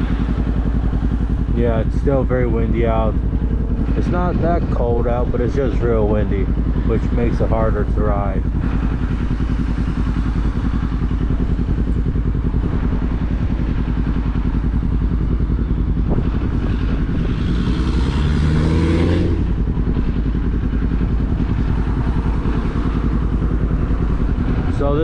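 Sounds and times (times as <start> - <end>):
motorcycle engine revving: 0.0 - 25.0
wind rumble on microphone: 0.0 - 25.0.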